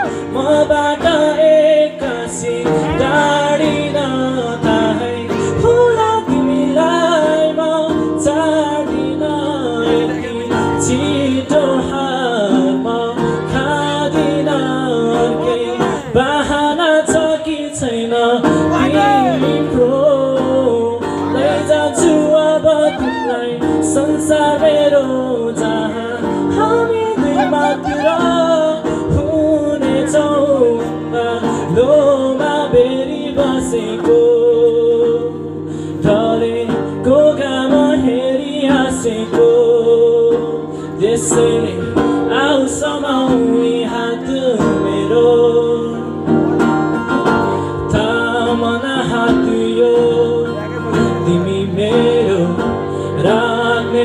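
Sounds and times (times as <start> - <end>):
acoustic guitar chords: 0.0 - 54.0
man singing: 0.0 - 54.0.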